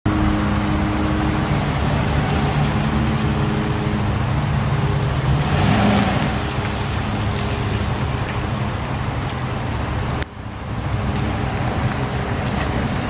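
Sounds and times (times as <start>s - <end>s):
engine idling: 0.1s - 13.0s.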